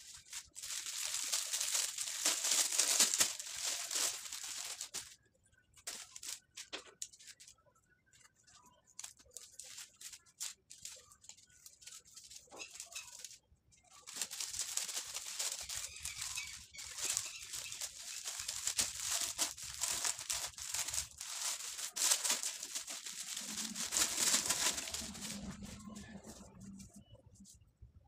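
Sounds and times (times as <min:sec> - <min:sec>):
glittery sheet crinkling: 0:00.0 - 0:27.5.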